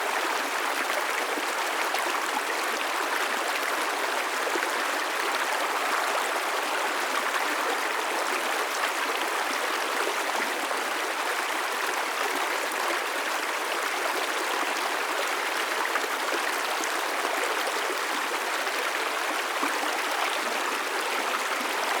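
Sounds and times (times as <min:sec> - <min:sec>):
stream flowing over rocks: 0:00.2 - 0:22.0.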